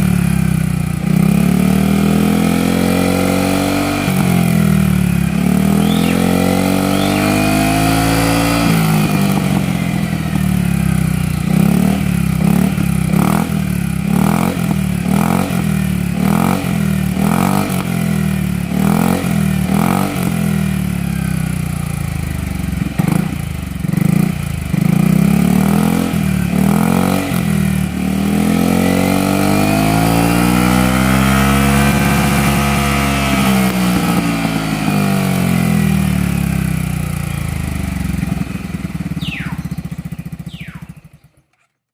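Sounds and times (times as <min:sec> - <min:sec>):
scooter engine revving: 0:00.0 - 0:41.7.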